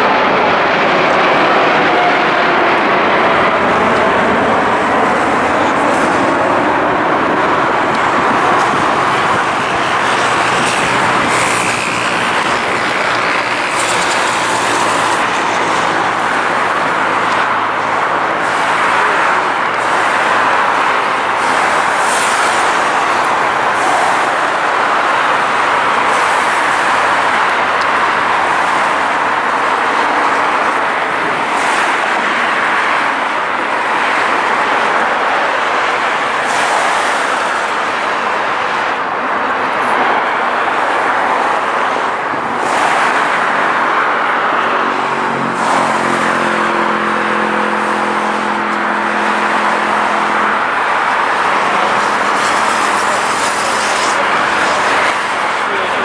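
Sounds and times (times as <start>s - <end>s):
jet engine roar: 0.0s - 56.0s.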